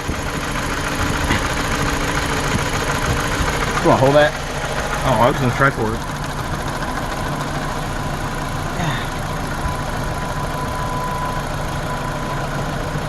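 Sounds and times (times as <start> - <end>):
car engine idling roughly: 0.0 - 13.0.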